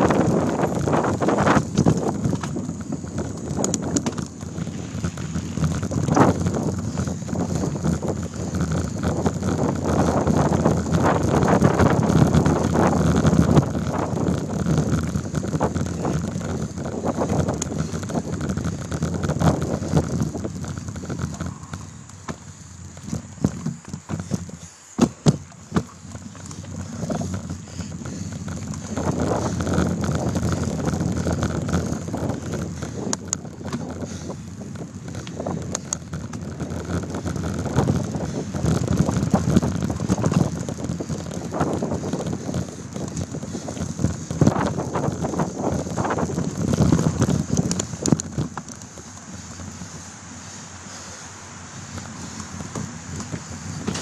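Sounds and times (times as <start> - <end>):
bike rattling over bumps: 0.0 - 54.0
bike tyre rumble on dirt: 0.0 - 54.0
wind on microphone: 0.0 - 54.0.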